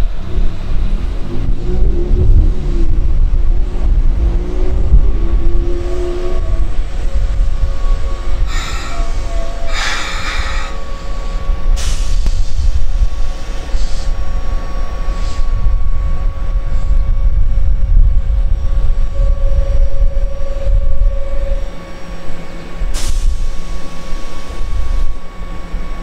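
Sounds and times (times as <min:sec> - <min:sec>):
train wheels rumbling: 0:00.0 - 0:26.0
thin steady whine: 0:04.7 - 0:26.0.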